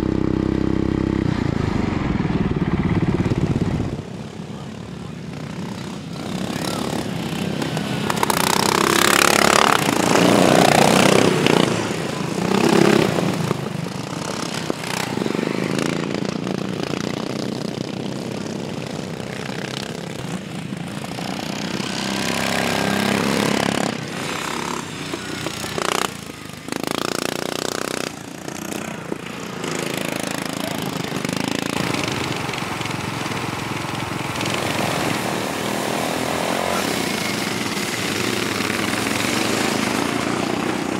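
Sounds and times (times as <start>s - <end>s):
lawnmower engines racing past: 0.0s - 40.9s.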